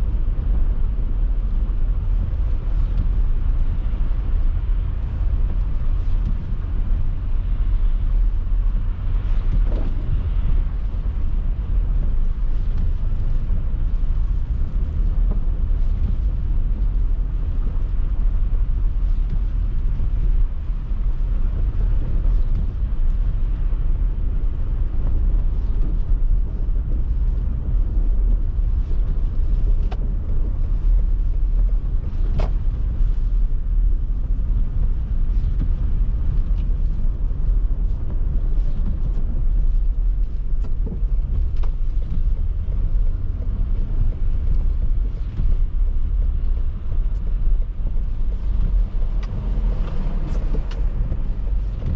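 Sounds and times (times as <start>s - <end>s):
car driving on snowy road: 0.0s - 51.9s.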